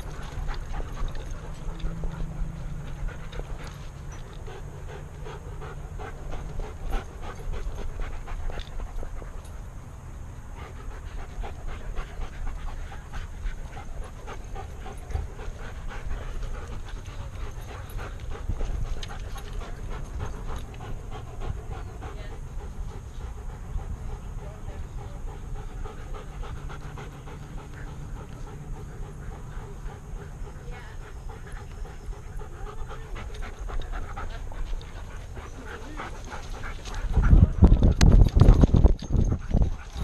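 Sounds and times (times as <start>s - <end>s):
dog panting: 0.0s - 40.0s.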